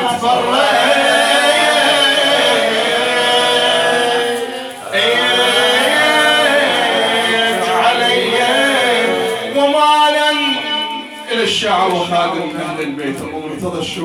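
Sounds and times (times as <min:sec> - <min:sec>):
man chanting unaccompanied: 0:00.0 - 0:14.0.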